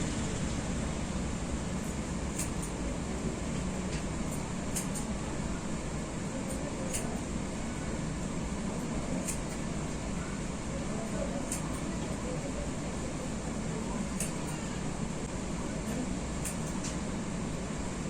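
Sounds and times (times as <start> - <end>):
steady hiss and hum: 0.0 - 18.0.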